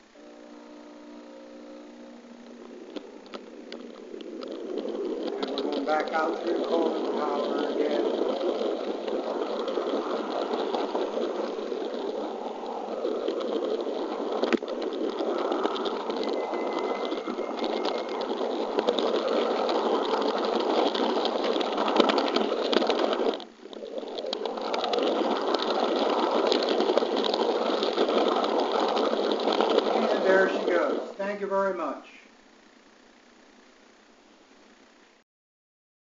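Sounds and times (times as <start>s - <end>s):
model train rattling whir: 0.0s - 35.2s.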